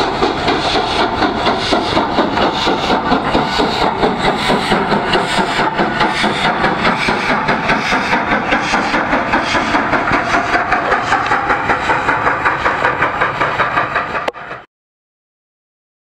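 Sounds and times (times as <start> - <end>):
steam locomotive chuffing: 0.0 - 14.7.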